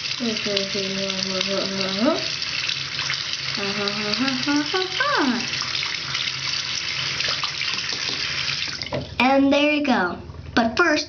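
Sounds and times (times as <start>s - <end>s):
faucet running into sink: 0.0s - 9.2s.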